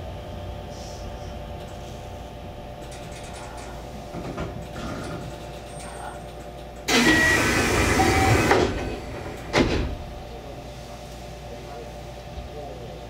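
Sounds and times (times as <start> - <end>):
train cab equipment hum: 0.0 - 11.9.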